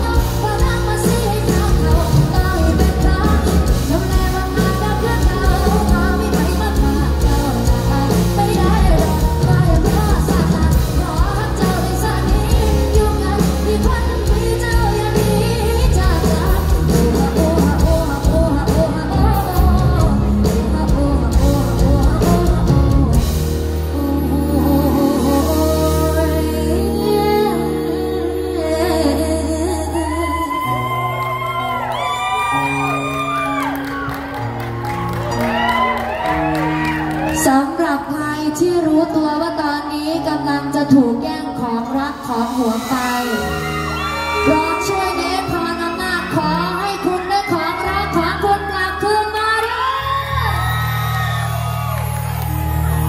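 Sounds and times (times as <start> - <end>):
woman singing: 0.0 - 31.8, 37.2 - 53.0
drums: 0.0 - 37.8, 40.8 - 53.0
pop-rock band playing: 0.0 - 53.0.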